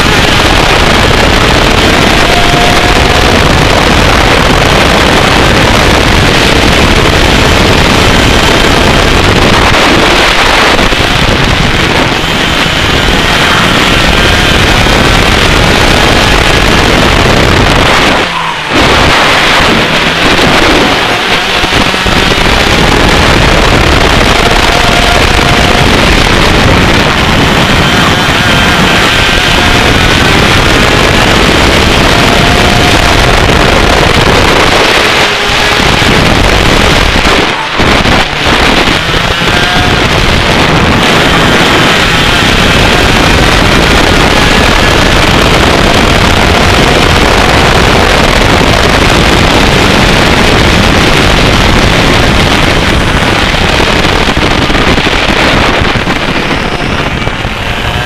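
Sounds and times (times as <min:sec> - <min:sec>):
kart engine running hard: 0:00.0 - 0:58.0
wind noise on microphone: 0:00.0 - 0:58.0.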